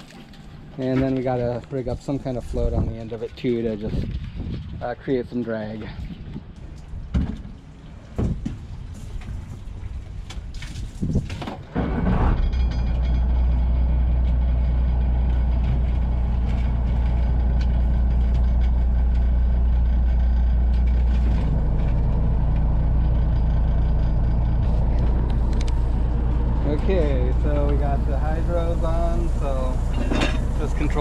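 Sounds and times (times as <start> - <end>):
hydraulics low hum: 0.0 - 31.0.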